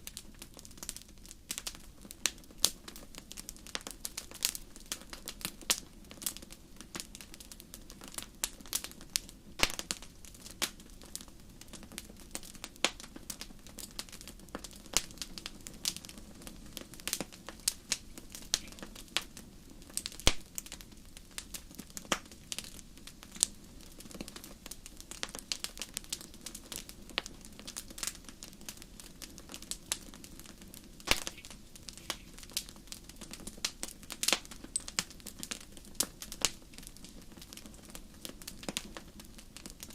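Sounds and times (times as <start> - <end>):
low rush of flame: 0.0 - 39.9
wood fire crackling and popping: 0.0 - 39.9.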